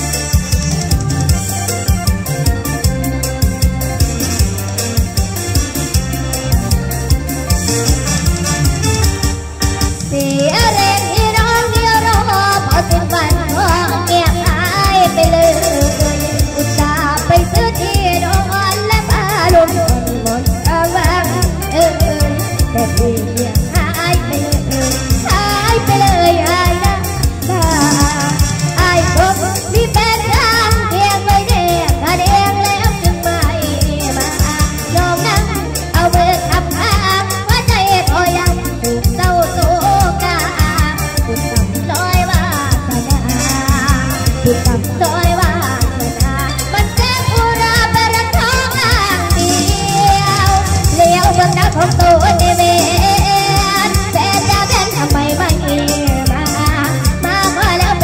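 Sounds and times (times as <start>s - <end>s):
backing music with steady beat: 0.0s - 58.0s
girl singing into microphone: 10.0s - 58.0s.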